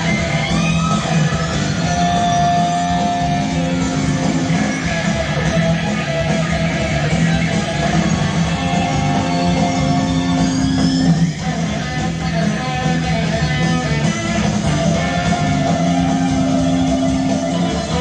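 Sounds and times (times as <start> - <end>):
held electric guitar notes: 0.0 - 18.0
live rock band: 0.0 - 18.0.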